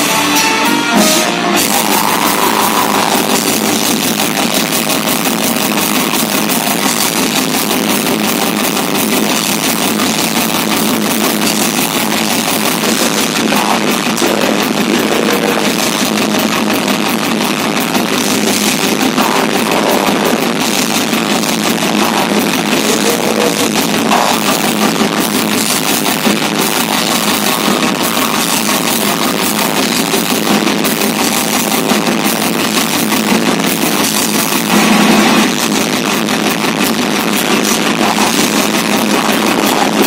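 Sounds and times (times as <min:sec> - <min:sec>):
metal band playing live: 0:00.0 - 0:40.0.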